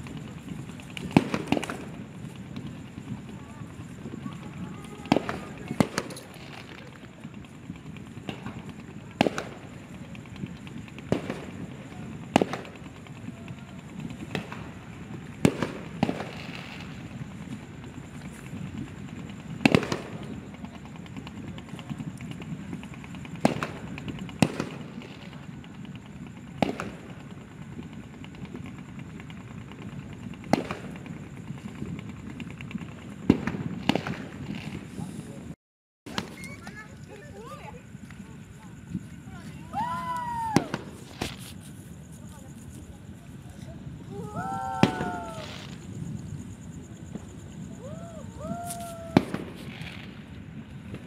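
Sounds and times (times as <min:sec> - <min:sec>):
distant fireworks bangs: 0:00.0 - 0:35.5, 0:36.1 - 0:43.2, 0:43.9 - 0:51.0
faint fireworks pops: 0:00.0 - 0:51.0.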